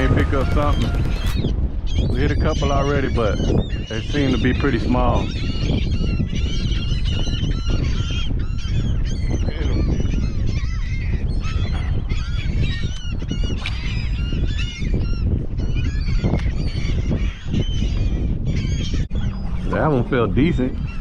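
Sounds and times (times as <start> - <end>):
flock of birds calling: 0.0 - 21.0
wind rumble on microphone: 0.0 - 21.0.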